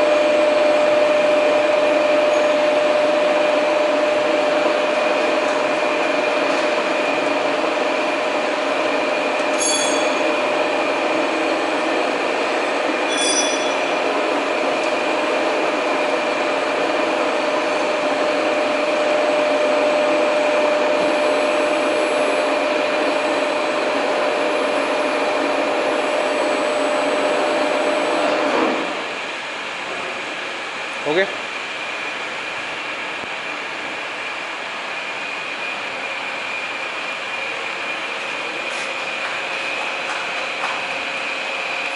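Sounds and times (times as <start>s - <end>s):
boring machine humming and whining: 0.0s - 41.9s.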